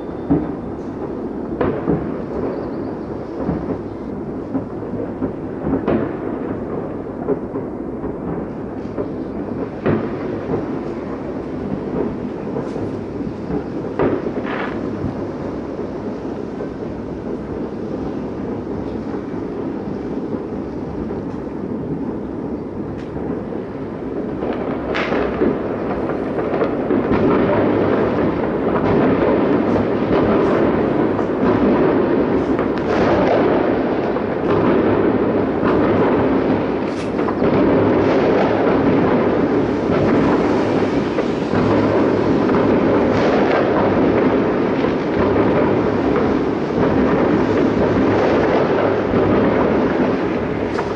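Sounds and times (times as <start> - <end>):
distant fireworks bursting: 0.0 - 50.9.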